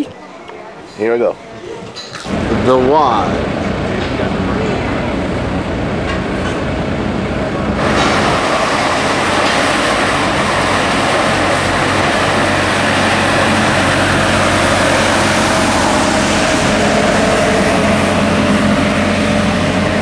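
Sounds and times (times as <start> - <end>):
street sweeper engine and brushes: 2.2 - 20.0
low hum: 2.3 - 20.0.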